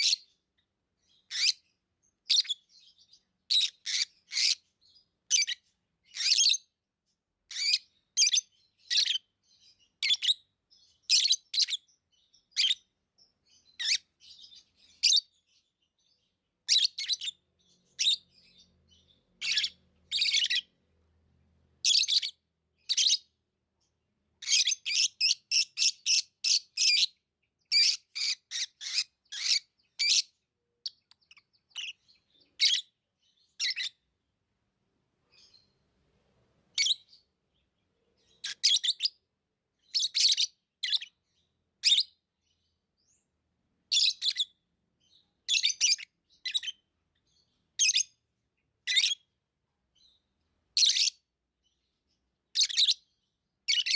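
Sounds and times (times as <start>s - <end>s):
lovebirds chirping: 0.0s - 53.9s.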